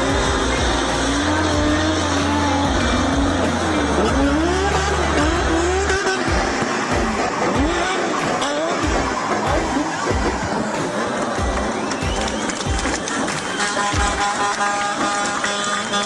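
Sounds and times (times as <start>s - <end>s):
engine revving: 0.0s - 16.0s
music with heavy bass: 0.0s - 16.0s.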